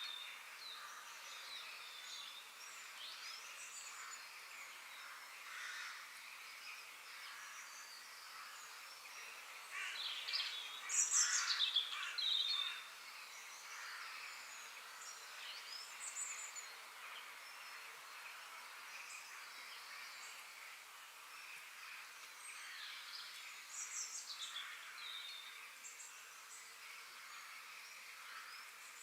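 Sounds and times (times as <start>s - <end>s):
birds chirping and singing: 0.0s - 29.0s
high background hiss: 0.0s - 29.0s.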